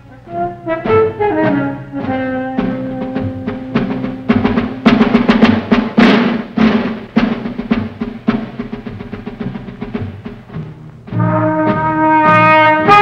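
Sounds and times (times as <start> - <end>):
orchestral film score: 0.0 - 13.0
rapid drum strokes and timpani: 0.0 - 13.0.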